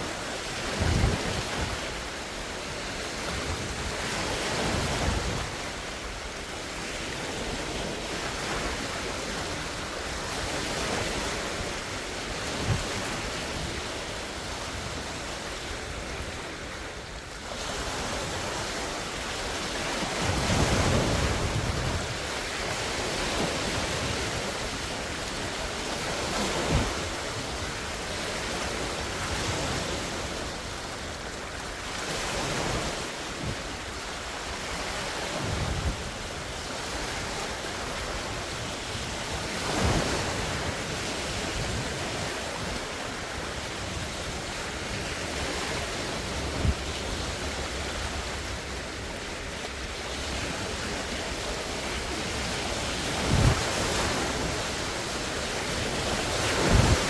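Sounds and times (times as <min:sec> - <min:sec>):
waves breaking on shore: 0:00.0 - 0:57.0
wind rumbling on microphone: 0:00.0 - 0:57.0.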